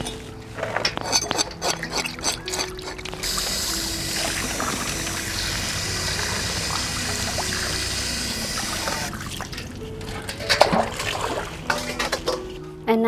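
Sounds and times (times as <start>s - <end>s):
soft background music: 0.0s - 13.0s
tap water pouring into metal basin: 1.8s - 12.4s.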